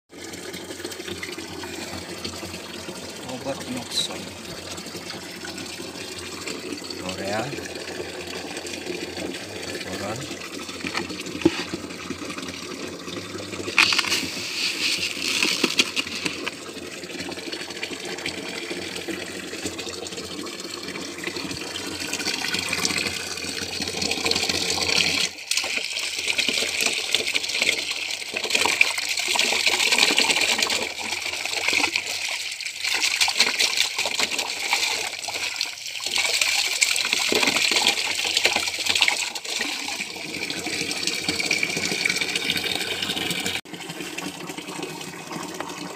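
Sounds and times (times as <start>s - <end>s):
water pouring from hose: 0.1s - 45.9s.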